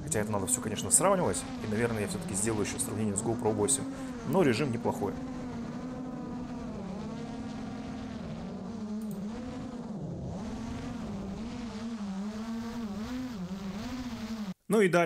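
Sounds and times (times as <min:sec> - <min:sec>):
drone motors and propellers buzzing: 0:00.0 - 0:14.6.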